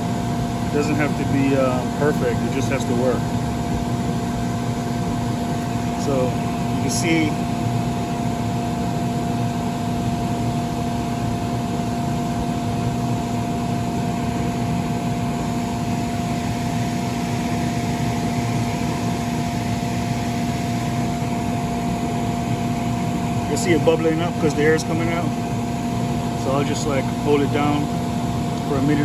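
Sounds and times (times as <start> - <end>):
inflation blower humming: 0.0 - 29.0.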